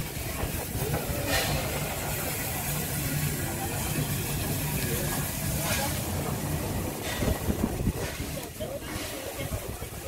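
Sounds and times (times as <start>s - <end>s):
steam hiss: 0.0s - 10.0s
steam locomotive rumbling: 0.0s - 10.0s.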